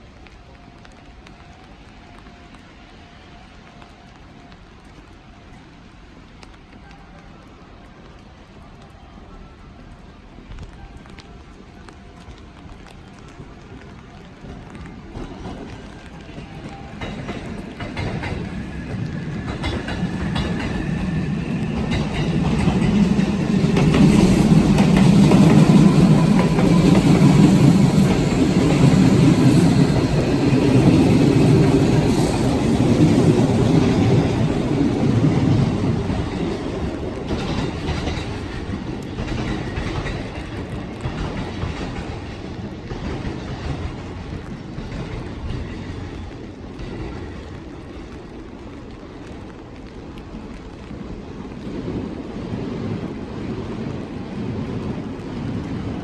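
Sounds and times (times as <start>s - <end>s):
train rumbling and clattering: 0.0s - 56.0s.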